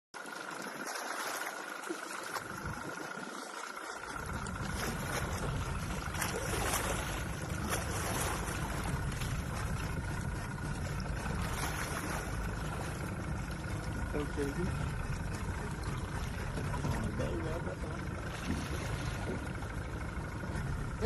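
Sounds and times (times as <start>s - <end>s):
outboard motor idling: 0.2s - 21.0s
water noise: 0.2s - 21.0s.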